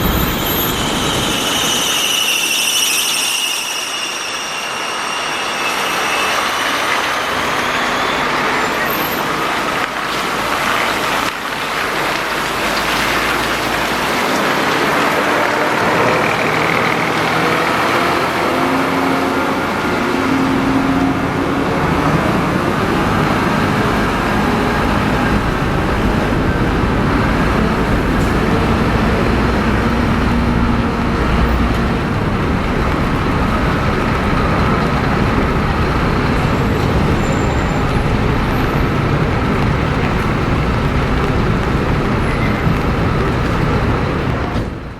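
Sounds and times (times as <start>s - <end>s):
bus diesel engine running: 0.0s - 2.1s, 6.1s - 44.9s
road traffic noise: 0.0s - 44.9s.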